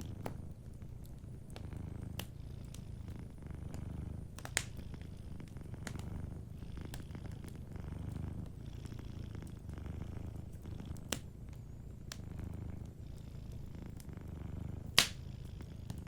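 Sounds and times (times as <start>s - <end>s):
cat purring: 0.0s - 16.0s
wood fire crackling and popping: 0.0s - 16.0s.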